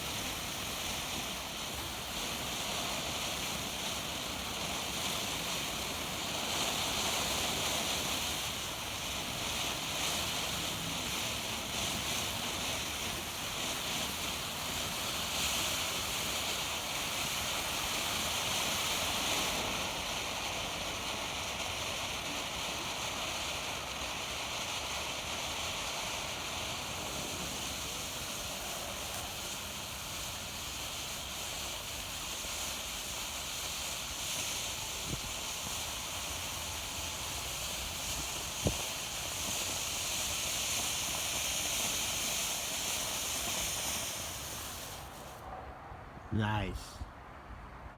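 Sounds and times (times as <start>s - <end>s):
firework fountain hissing sparks: 0.0s - 45.4s.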